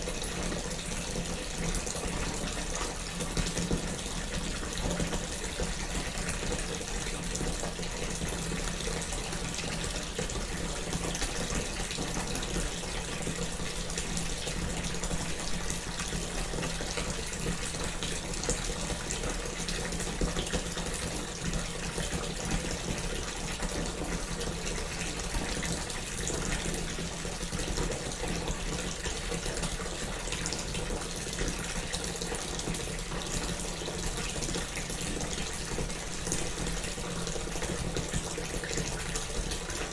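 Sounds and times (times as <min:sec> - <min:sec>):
water pouring into bathtub: 0:00.0 - 0:39.9.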